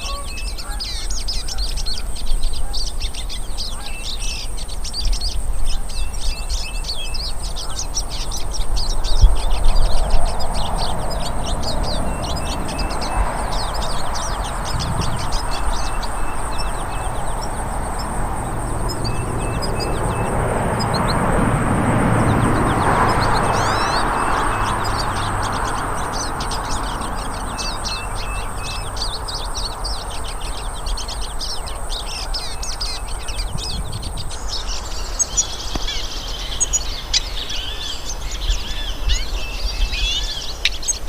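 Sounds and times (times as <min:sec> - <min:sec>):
birds twittering: 0:00.0 - 0:41.0.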